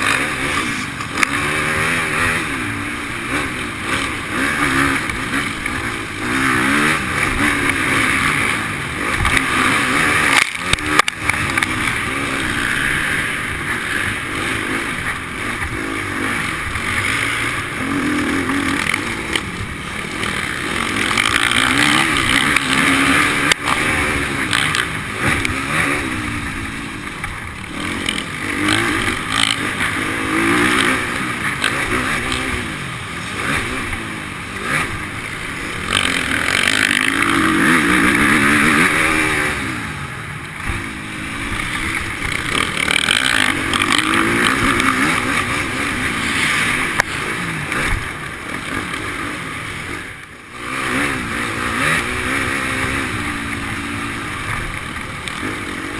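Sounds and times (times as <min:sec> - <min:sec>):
motocross motorcycle engines revving: 0:00.0 - 0:55.9.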